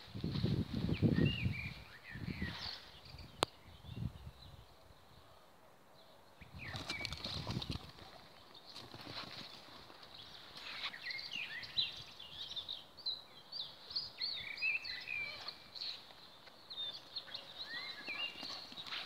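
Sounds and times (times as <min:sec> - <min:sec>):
small birds chirping: 0:00.2 - 0:05.3, 0:06.0 - 0:19.0.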